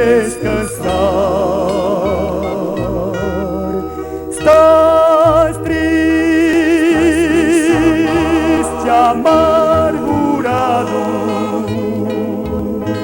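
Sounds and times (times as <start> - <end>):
gospel song with vibrato melody: 0.0 - 13.0
steady bass line: 0.0 - 13.0.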